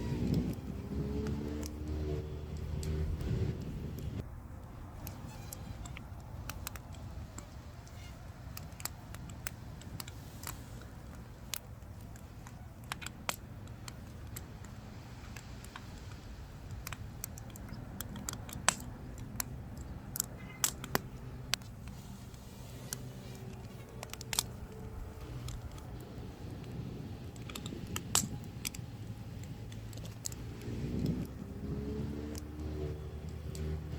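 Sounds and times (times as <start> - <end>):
firewood crackling and popping: 0.0 - 33.9
low steady rumble of fire: 0.0 - 33.9.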